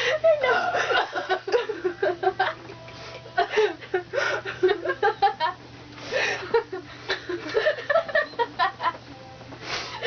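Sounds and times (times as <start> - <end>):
people giggling and chuckling: 0.0 - 2.7, 3.3 - 9.0.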